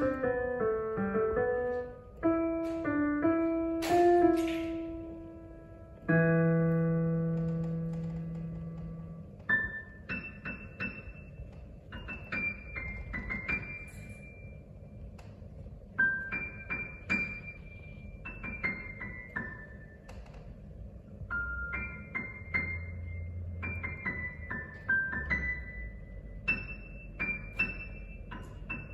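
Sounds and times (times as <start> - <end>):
solo piano music: 0.0 - 15.0, 15.9 - 20.1, 21.2 - 28.9.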